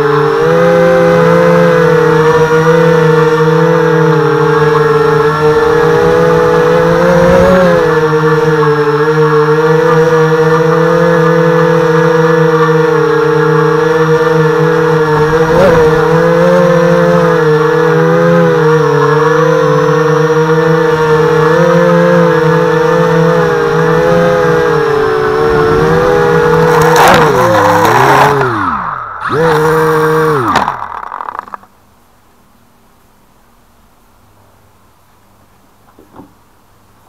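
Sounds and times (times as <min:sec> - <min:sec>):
drone motors whining: 0:00.0 - 0:31.8.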